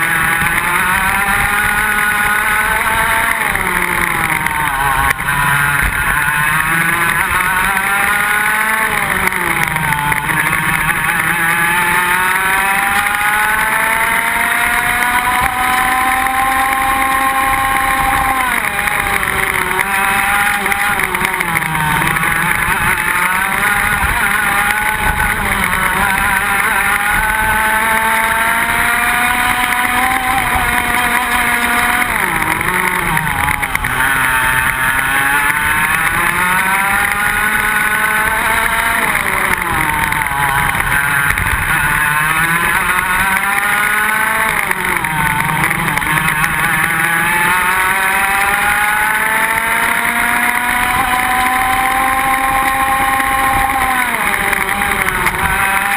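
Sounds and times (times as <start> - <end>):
kart engines revving: 0.0 - 55.9.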